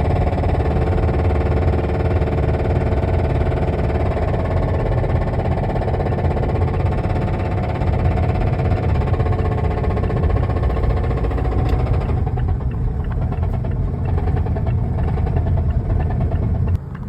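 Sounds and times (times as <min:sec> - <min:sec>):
engine running with heavy knock: 0:00.0 - 0:17.0.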